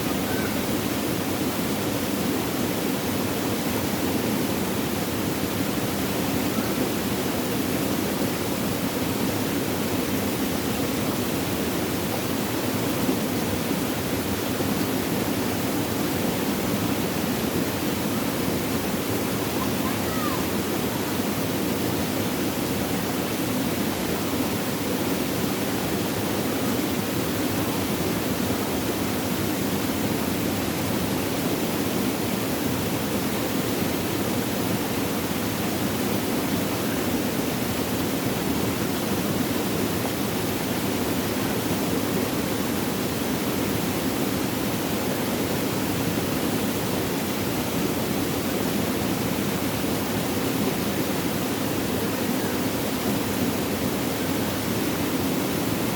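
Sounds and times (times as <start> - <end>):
water flowing: 0.0 - 55.9.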